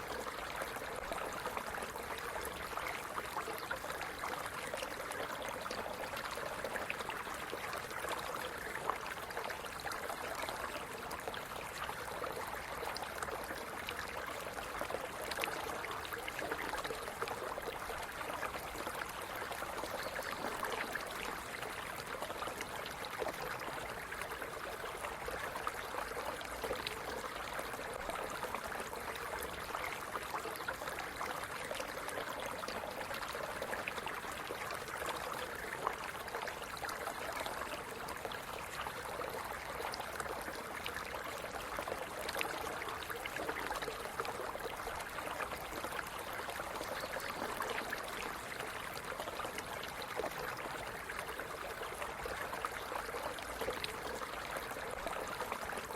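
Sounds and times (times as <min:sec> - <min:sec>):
stream babbling over stones: 0:00.0 - 0:55.9.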